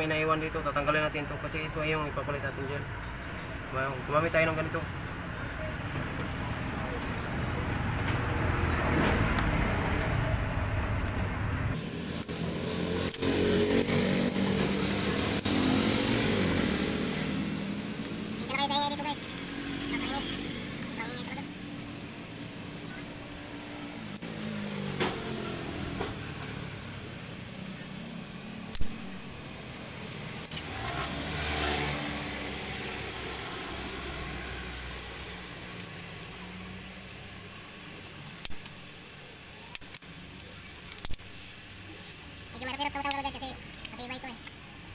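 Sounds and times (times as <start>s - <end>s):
vehicle engine passing by: 0.0s - 21.7s, 22.6s - 37.4s
street noise: 0.0s - 44.9s.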